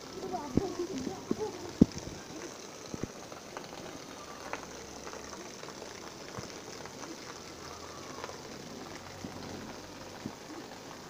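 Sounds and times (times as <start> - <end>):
small drips and taps: 0.0 - 11.0
steady rain hiss: 0.0 - 11.0.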